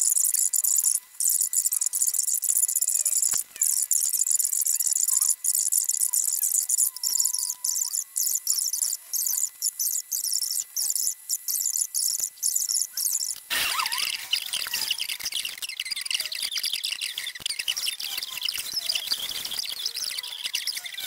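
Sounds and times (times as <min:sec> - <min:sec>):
insects chirring in pulses: 0:00.0 - 0:21.0.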